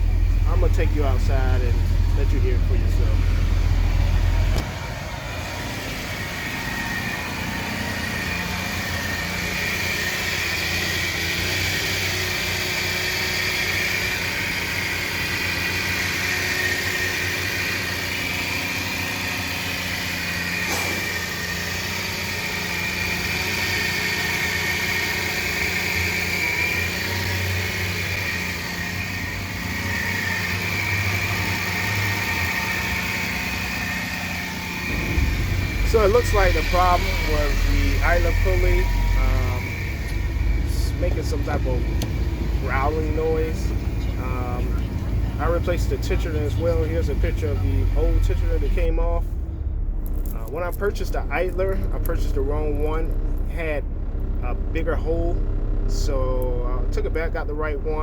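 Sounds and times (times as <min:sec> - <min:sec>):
car engine idling: 0:00.0 - 0:58.0
belt drive whining: 0:01.7 - 0:48.7.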